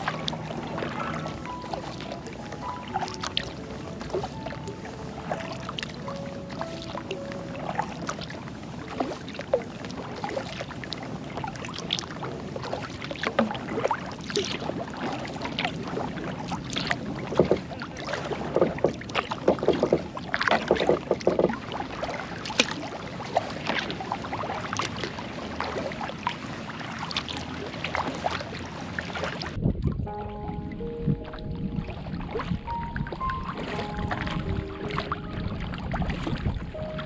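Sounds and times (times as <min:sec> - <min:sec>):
paddle splashes and drips: 0:00.0 - 0:30.6, 0:31.2 - 0:37.0.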